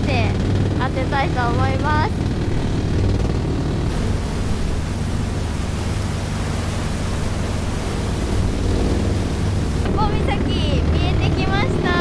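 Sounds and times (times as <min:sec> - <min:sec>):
churning boat wake: 0:00.0 - 0:12.0
low engine drone: 0:00.0 - 0:12.0.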